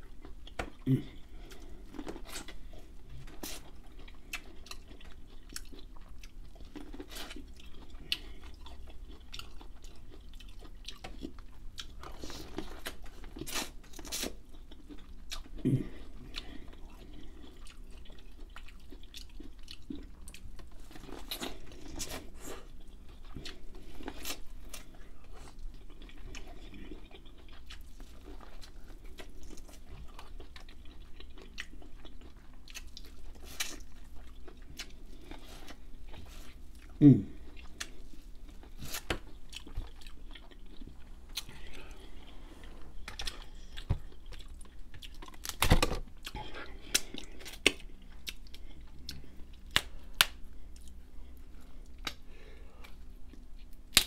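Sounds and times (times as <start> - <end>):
chewing corn on the cob: 0.0 - 52.2.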